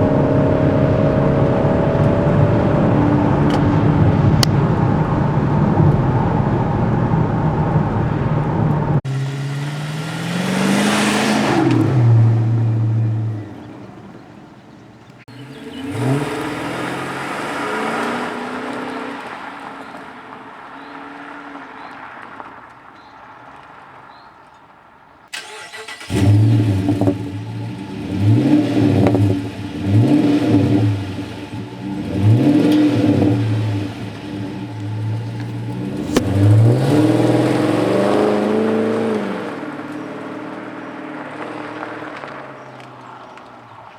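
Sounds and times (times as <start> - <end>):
car engine starting and revving: 0.0 - 24.0, 25.3 - 43.9.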